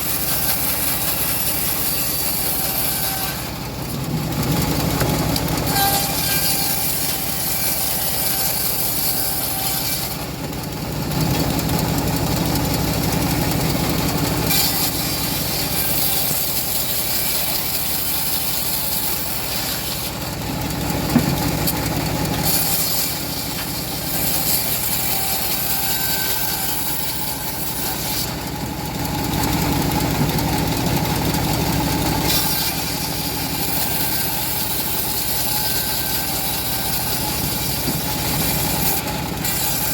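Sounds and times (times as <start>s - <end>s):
bandsaw cutting a log: 0.0s - 39.9s.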